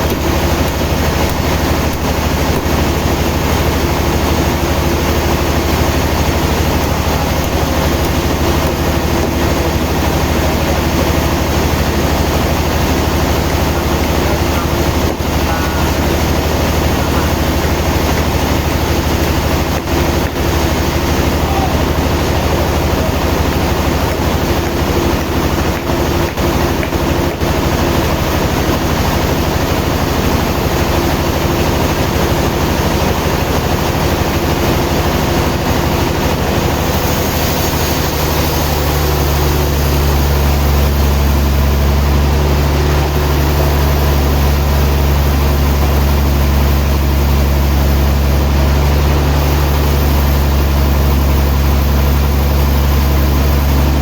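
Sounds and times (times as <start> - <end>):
sawmill machinery hum: 0.0 - 54.0.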